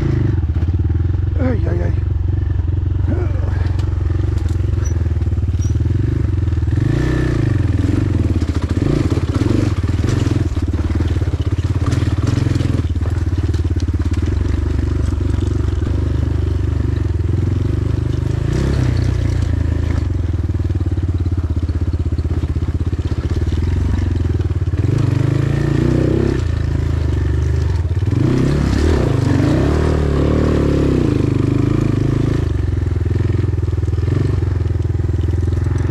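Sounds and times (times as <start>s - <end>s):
dirt bike engine revving: 0.0s - 35.9s
bike knocking and rattling: 2.3s - 7.0s, 7.7s - 29.9s, 31.5s - 35.9s.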